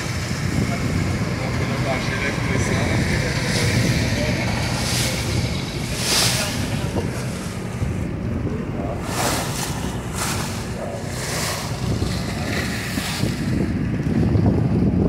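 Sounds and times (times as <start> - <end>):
low rumble: 0.0 - 15.0
wind buffeting microphone: 0.0 - 15.0
water splashing against boat: 1.3 - 13.9.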